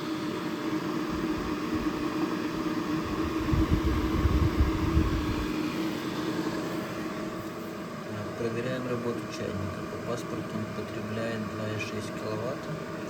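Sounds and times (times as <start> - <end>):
power station fan hum: 0.0 - 13.0.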